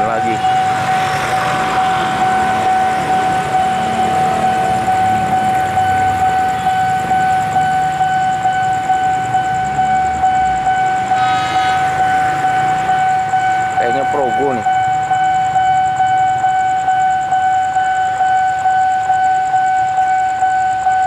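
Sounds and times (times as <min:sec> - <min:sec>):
level crossing alarm pulsing tone: 0:00.0 - 0:21.0.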